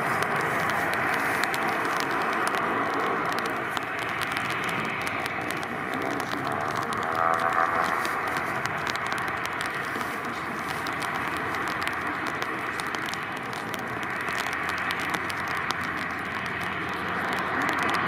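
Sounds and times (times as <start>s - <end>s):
crackling clicks: 0.0s - 18.0s.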